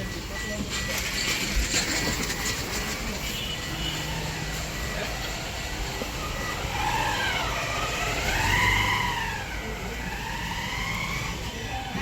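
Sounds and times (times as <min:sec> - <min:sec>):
vehicle and traffic noise: 0:00.0 - 0:12.0.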